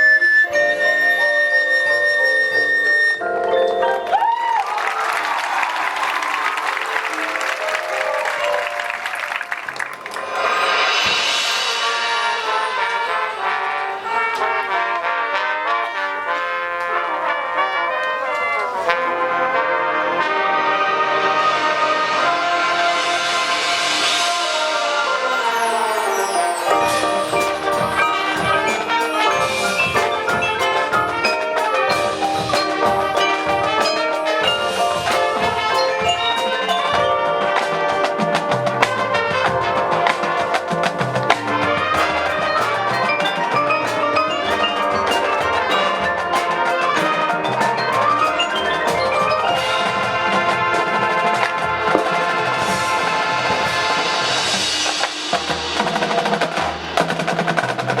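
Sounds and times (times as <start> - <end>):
mallet percussion: 0.0 - 20.6, 23.4 - 58.0
marching band playing: 0.0 - 58.0.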